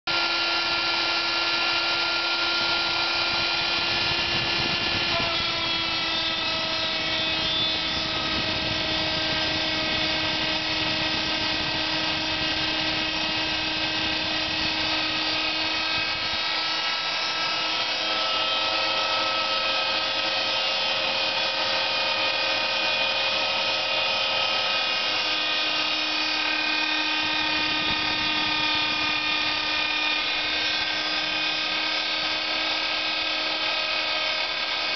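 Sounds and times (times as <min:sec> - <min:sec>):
milling machine whine: 0:00.1 - 0:34.9.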